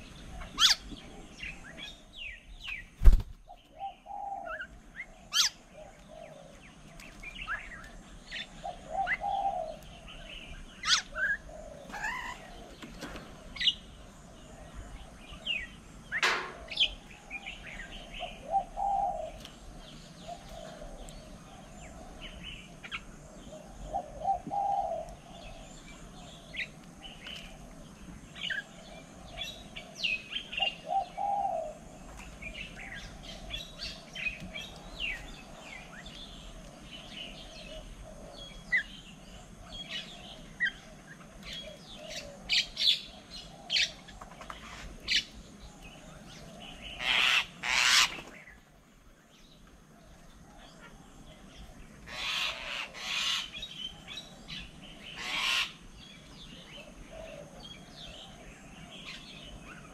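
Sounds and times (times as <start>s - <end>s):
lower bird calls: 0.0s - 59.9s.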